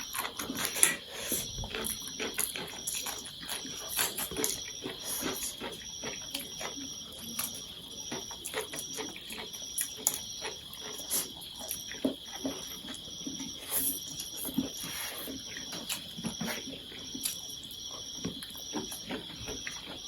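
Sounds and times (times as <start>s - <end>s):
chewing noodles: 0.0s - 20.0s.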